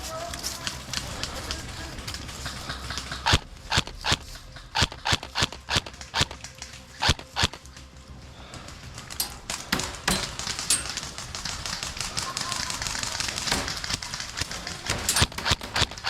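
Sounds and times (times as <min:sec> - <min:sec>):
airsoft guns firing: 0:00.6 - 0:07.6, 0:09.2 - 0:16.0.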